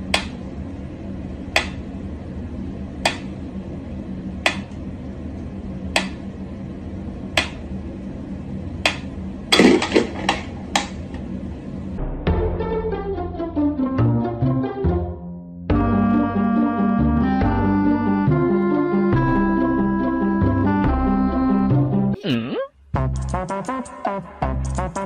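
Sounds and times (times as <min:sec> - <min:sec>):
steady low hum: 0:00.0 - 0:13.9, 0:15.7 - 0:23.7.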